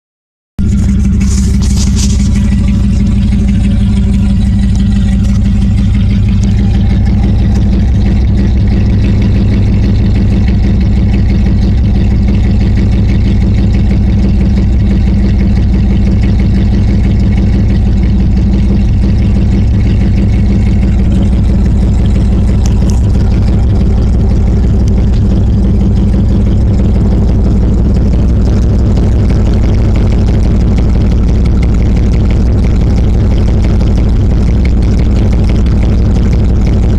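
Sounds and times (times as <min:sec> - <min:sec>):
loud unmuffled engine idling: 0:00.6 - 0:36.9.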